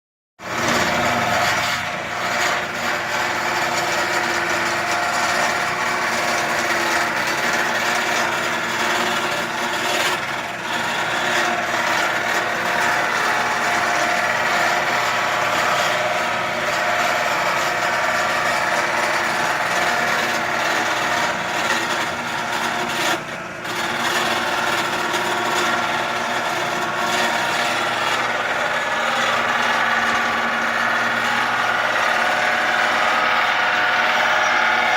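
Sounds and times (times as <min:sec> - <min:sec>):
lathe motor hum: 0:00.4 - 0:34.9
turning tool scraping wood: 0:00.4 - 0:34.9.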